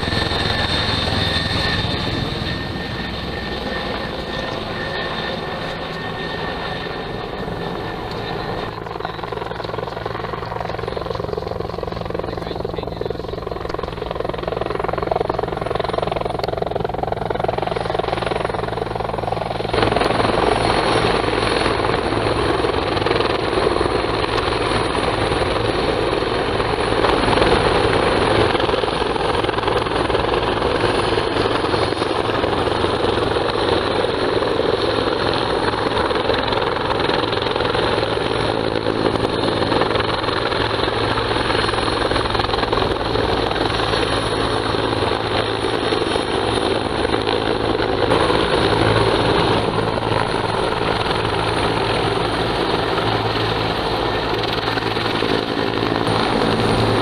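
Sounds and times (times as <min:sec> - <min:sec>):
helicopter rotor chop: 0:00.0 - 0:57.0
helicopter turbine noise: 0:00.0 - 0:57.0.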